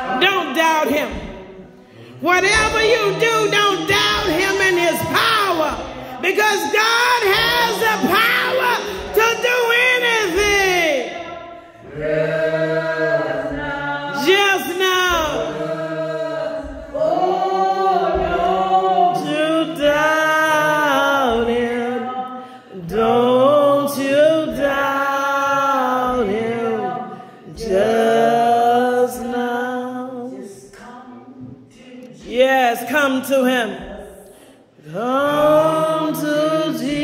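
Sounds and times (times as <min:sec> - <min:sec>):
singing slow church hymn: 0:00.0 - 0:37.0.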